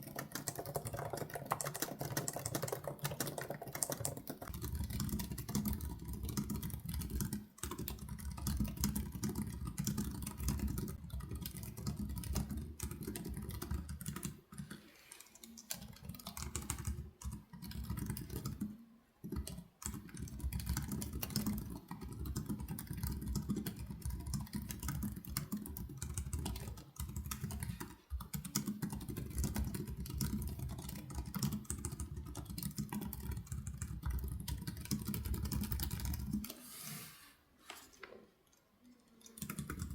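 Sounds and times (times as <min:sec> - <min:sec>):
keyboard typing: 0:00.0 - 0:36.6, 0:37.7 - 0:39.9.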